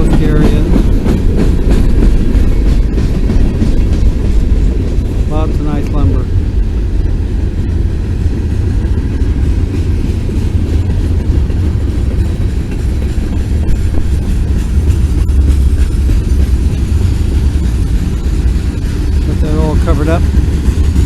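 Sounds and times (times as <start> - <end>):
freight cars rumbling on rails: 0.0 - 21.0
wheels clickety-clack: 0.0 - 21.0.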